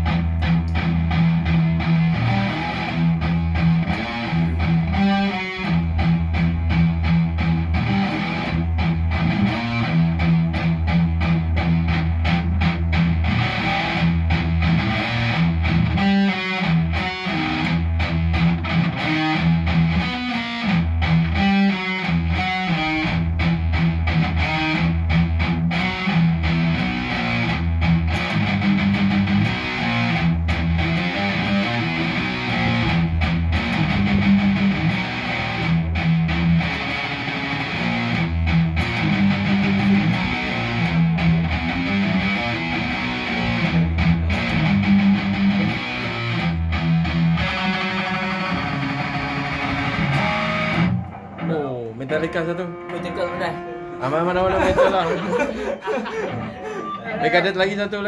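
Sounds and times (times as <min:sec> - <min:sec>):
distorted electric guitar riffs: 0:00.0 - 0:58.0.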